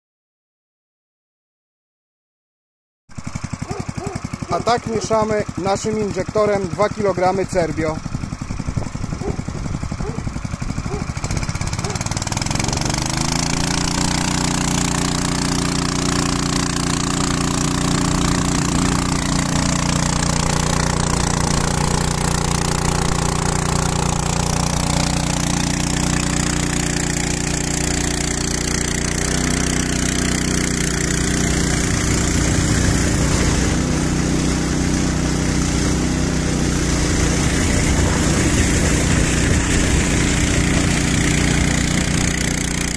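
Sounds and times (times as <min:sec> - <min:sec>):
small pump engine revving: 0:03.1 - 0:42.9.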